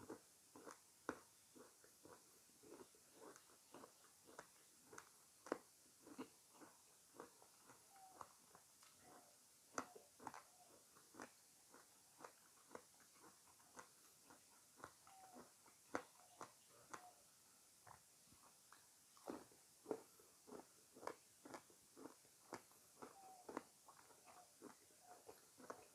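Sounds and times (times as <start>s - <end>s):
crunchy fruit chewing: 0.0s - 25.9s
mouth clicks: 0.6s - 17.2s, 17.8s - 25.9s.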